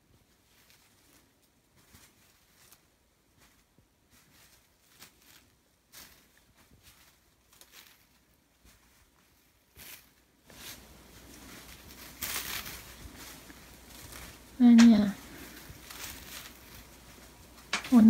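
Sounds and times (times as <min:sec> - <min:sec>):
soft steady hiss: 0:00.0 - 0:18.0.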